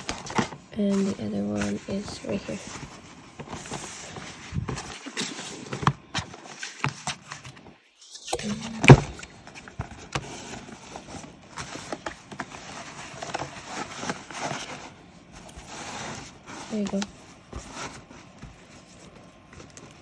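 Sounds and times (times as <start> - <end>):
gift wrapping paper rustling: 0.0 - 7.5, 8.4 - 20.0.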